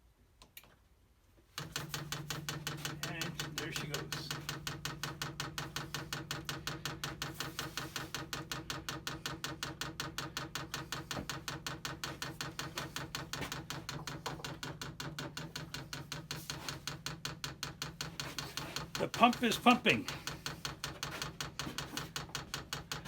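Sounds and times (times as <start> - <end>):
fuel pump ticking rapidly: 1.6 - 23.0.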